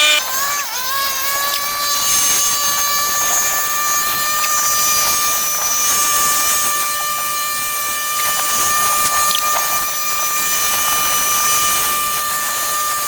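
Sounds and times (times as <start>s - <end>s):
power tool motor whining: 0.0s - 13.0s.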